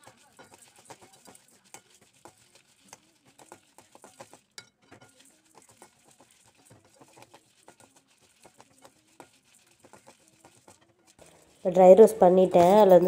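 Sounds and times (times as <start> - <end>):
spatula scraping seeds in metal pan: 0.0 - 13.0.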